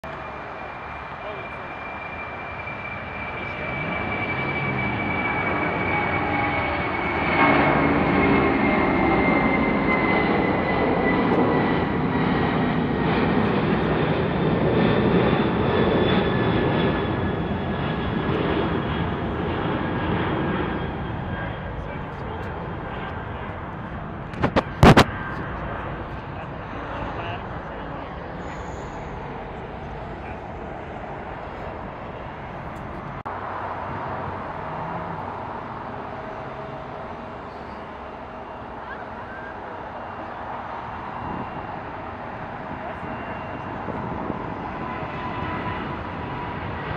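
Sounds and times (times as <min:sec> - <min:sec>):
distant airport noise: 0:00.0 - 0:46.9
jet engines roaring: 0:00.0 - 0:46.9.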